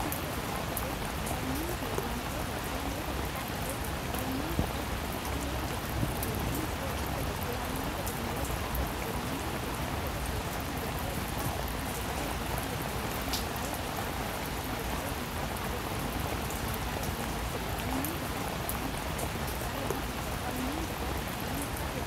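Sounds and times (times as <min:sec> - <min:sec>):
raindrop ticks: 0:00.0 - 0:22.0
steady rain hiss: 0:00.0 - 0:22.0.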